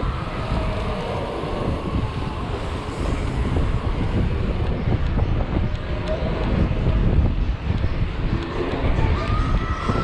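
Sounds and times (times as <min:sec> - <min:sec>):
bike rolling on pavement: 0:00.0 - 0:10.0
wind on microphone: 0:00.0 - 0:10.0.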